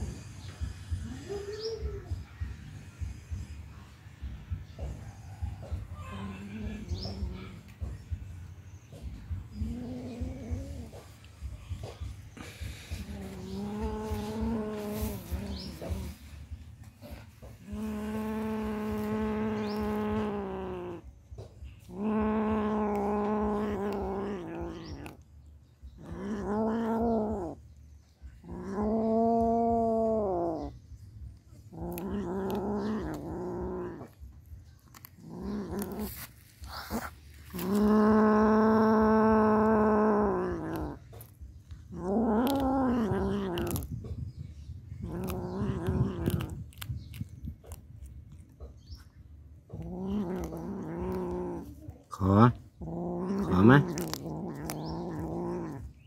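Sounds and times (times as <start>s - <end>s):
kitten growling and yowling: 0.0s - 2.5s, 5.6s - 8.1s, 9.0s - 16.4s, 17.0s - 25.2s, 25.8s - 30.8s, 31.4s - 56.0s.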